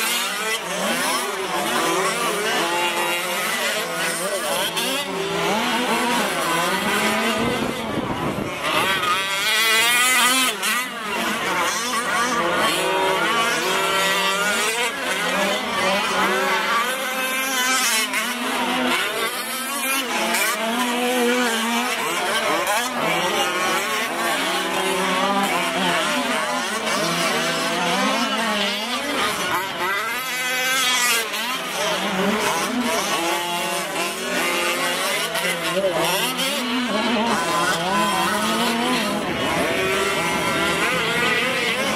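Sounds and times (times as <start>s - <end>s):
small two-stroke engines revving: 0.0s - 41.9s.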